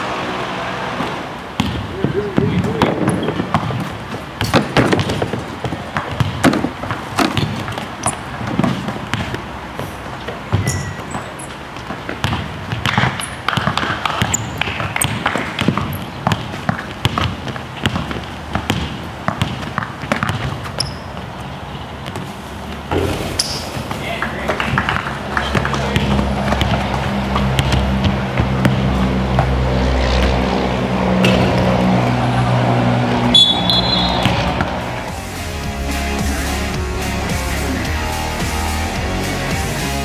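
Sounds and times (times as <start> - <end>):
basketballs bouncing on court: 1.0 - 35.2.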